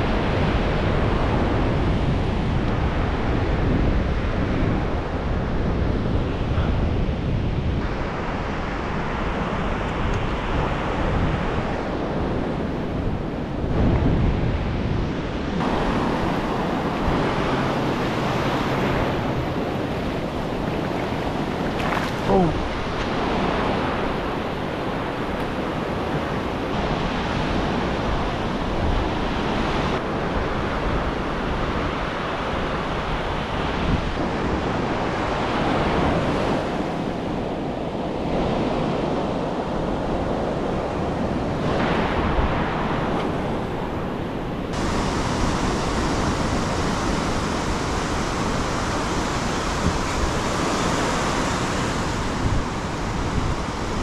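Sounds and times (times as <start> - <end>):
ocean surf breaking: 0.0 - 54.0
wind buffeting microphone: 0.0 - 54.0.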